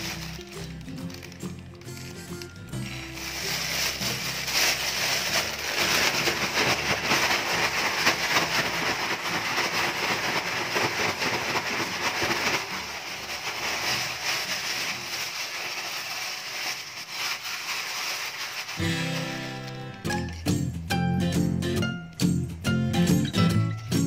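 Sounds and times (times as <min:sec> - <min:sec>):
plastic bag crinkling and rustling: 0:00.0 - 0:20.3.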